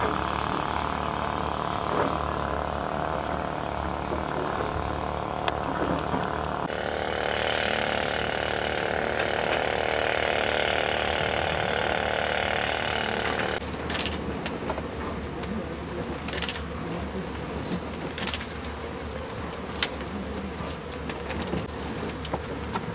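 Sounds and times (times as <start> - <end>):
mechanical running noise: 0.0 - 22.9.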